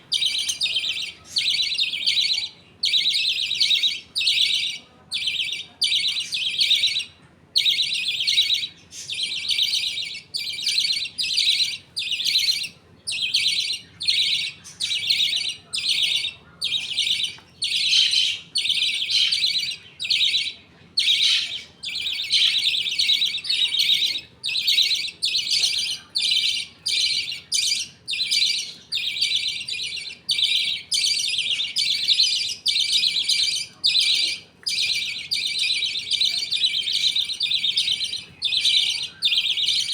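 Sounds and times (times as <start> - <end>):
budgies chirping: 0.0 - 39.9.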